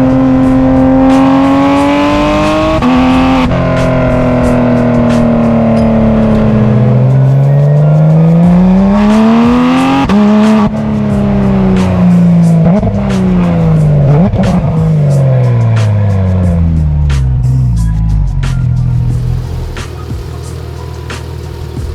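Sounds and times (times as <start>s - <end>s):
sports car engine accelerating: 0.0s - 21.9s.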